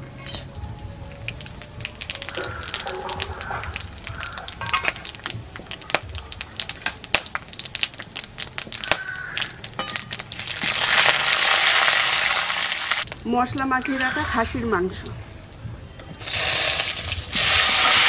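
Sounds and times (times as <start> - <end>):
loud steady sizzle: 0.0 - 18.0
spices crackling in hot oil: 0.1 - 18.0.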